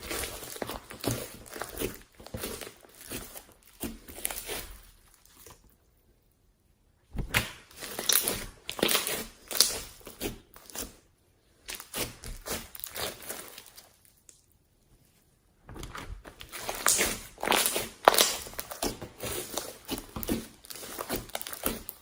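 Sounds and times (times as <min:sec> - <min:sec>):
slime crackling and tearing: 0:00.0 - 0:05.6, 0:07.3 - 0:11.0, 0:11.6 - 0:14.4, 0:16.4 - 0:22.0.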